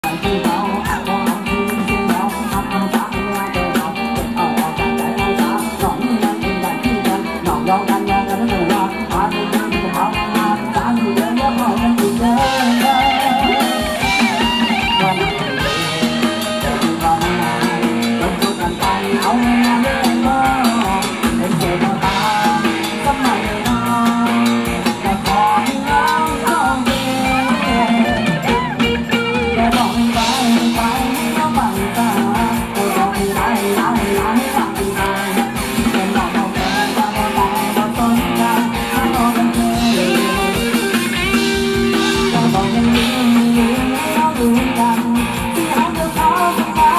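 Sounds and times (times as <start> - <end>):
live band dance music: 0.0 - 46.9
person singing: 0.0 - 46.9.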